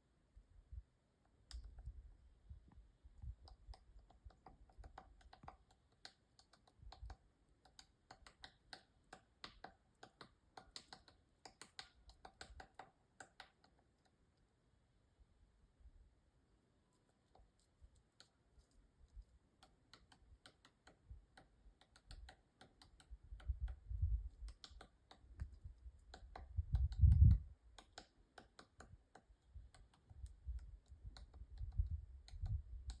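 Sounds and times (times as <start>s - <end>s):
woodpecker pecking wood: 3.2s - 14.4s, 17.0s - 33.0s.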